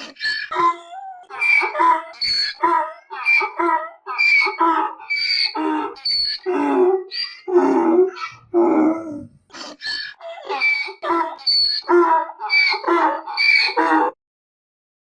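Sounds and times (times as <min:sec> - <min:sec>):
donkey braying: 0:00.0 - 0:14.2.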